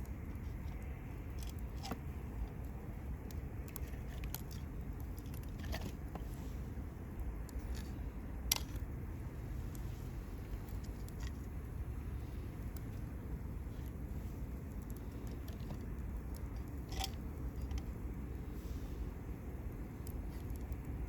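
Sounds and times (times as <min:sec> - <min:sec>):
campfire rumble: 0:00.0 - 0:21.0
fire crackles and pops: 0:00.0 - 0:21.0.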